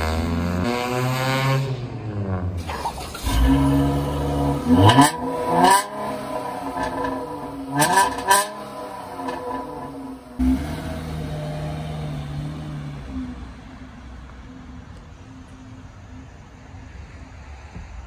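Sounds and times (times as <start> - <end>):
car exhaust revving: 0.0 - 16.2.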